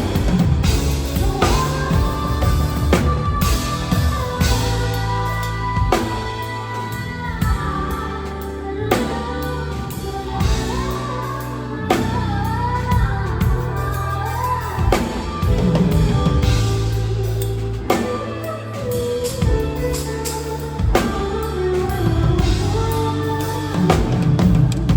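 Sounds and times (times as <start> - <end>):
person singing: 0.0 - 24.9
pop band playing: 0.0 - 24.9.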